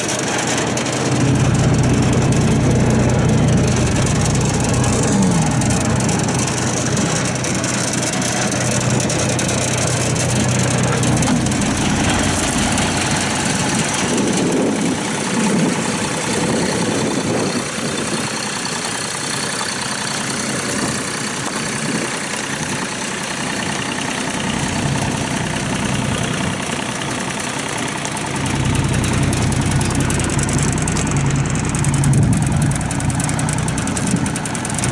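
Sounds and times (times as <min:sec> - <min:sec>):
diesel engine clattering: 0:00.0 - 0:34.9.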